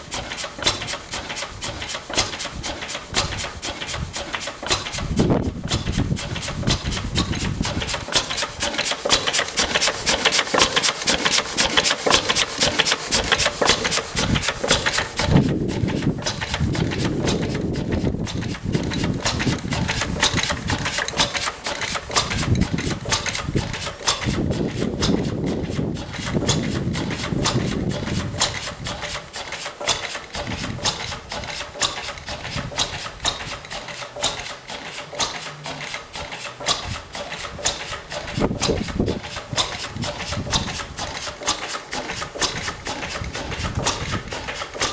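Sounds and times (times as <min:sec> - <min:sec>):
stationary engine running: 0:00.0 - 0:44.9.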